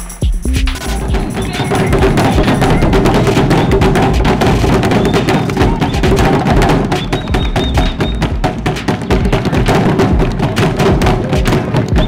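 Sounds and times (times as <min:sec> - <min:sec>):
drums beaten with sticks: 0:00.0 - 0:12.0.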